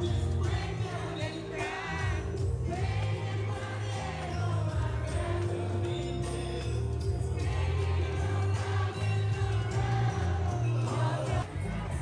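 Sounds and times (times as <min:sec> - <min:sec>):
song with bass line: 0:00.0 - 0:12.0.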